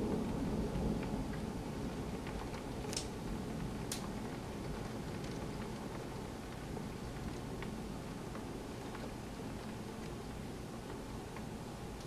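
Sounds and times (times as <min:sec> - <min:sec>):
thunder rumble: 0:00.0 - 0:11.1
steady rain: 0:00.0 - 0:12.0.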